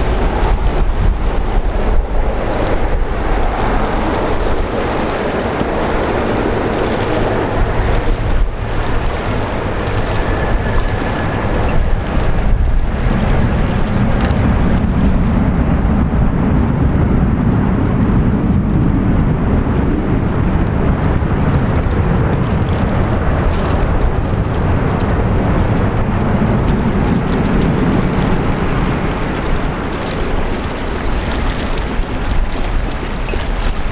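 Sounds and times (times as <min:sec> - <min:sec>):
jet engine rushing: 0:00.0 - 0:33.0
wind buffeting microphone: 0:00.0 - 0:33.9.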